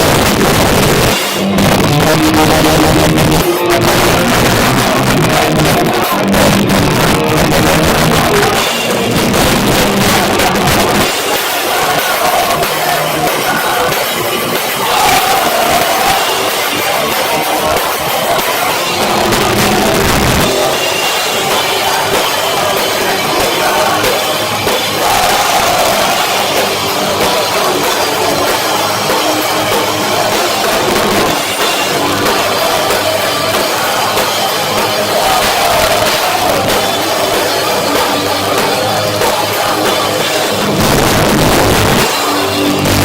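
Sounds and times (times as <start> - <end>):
distorted guitars: 0.0 - 43.0
drums: 0.0 - 43.0
heavy rock band playing loud: 0.0 - 43.0.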